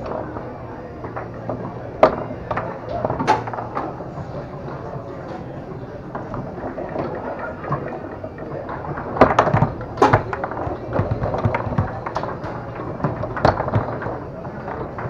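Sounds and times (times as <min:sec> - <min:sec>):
foosball ball struck: 0:00.0 - 0:15.0
low background murmur: 0:00.0 - 0:15.0
rods knocking: 0:00.0 - 0:15.0.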